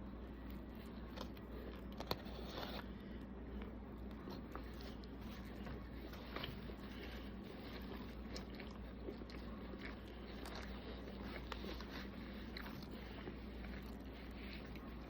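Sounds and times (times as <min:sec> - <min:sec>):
steady low hum: 0:00.0 - 0:15.0
person chewing food: 0:00.1 - 0:15.0.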